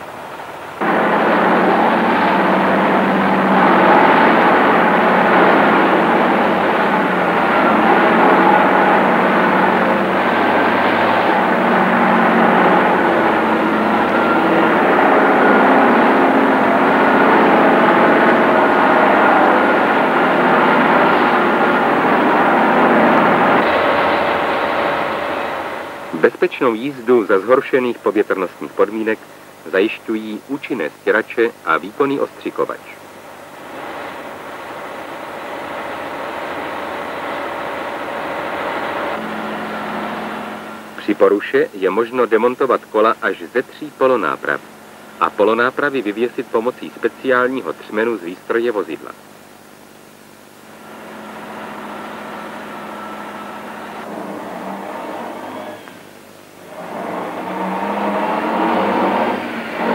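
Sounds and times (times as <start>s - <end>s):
truck engine droning: 0.0s - 30.4s, 31.7s - 59.9s.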